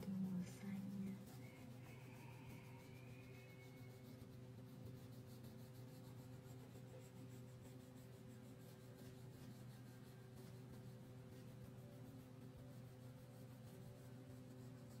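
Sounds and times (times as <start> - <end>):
crayon scratching on paper: 0.0 - 15.0
low steady hum: 0.0 - 15.0.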